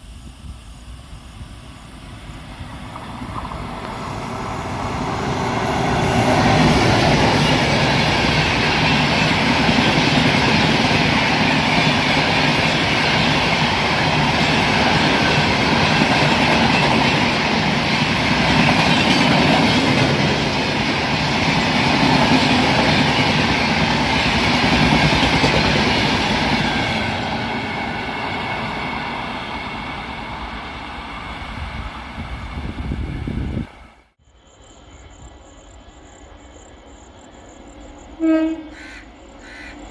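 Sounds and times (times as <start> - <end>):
train passing at speed: 0.0 - 39.9.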